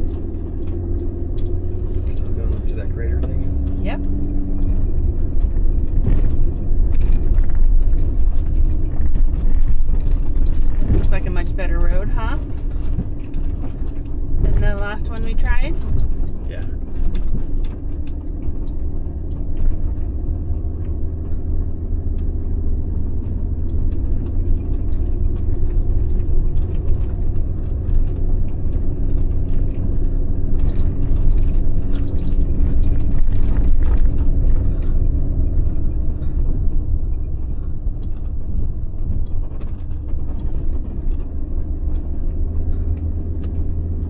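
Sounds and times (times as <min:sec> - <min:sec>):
clicks and rattles: 0:00.0 - 0:44.0
tyres rumbling: 0:00.0 - 0:44.0
van engine hum: 0:00.0 - 0:44.0.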